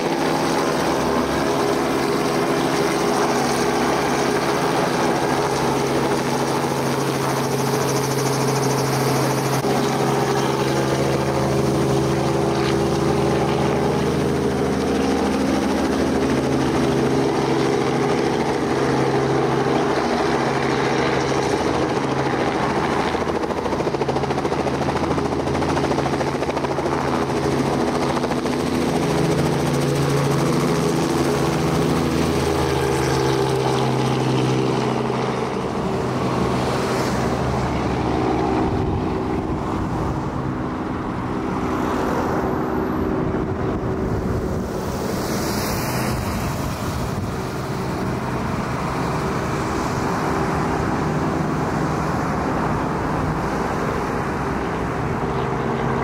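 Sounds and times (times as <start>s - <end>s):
helicopter passing: 0.0s - 56.0s
road traffic rumble: 0.0s - 56.0s.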